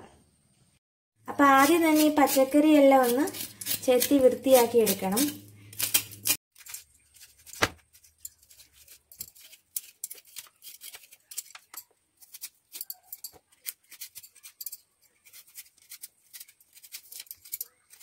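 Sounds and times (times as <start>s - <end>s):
knife cutting vegetable: 1.4s - 18.0s.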